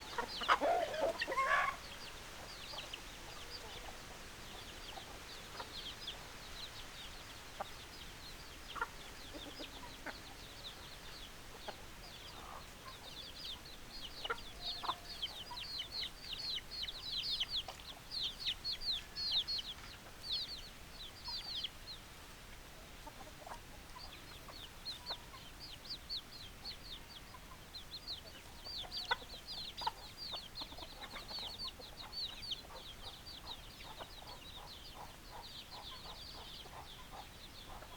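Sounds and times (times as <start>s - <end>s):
chickens chirping: 0.0s - 37.9s
chickens clucking: 0.0s - 37.9s.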